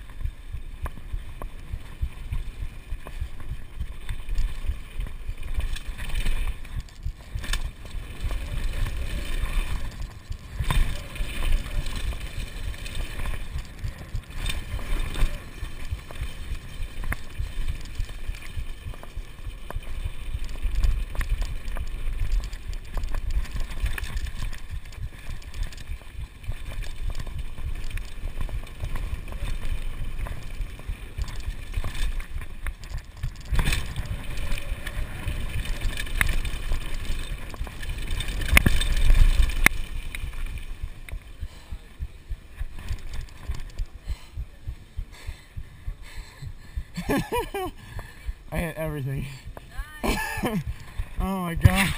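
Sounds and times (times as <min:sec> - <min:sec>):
bike rattling: 0:00.0 - 0:51.9
bike tyres on loose dirt: 0:00.0 - 0:51.9
wind rumble on microphone: 0:00.0 - 0:51.9.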